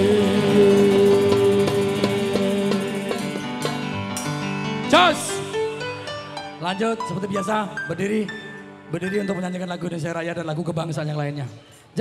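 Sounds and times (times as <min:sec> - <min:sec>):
live band music: 0:00.0 - 0:10.1.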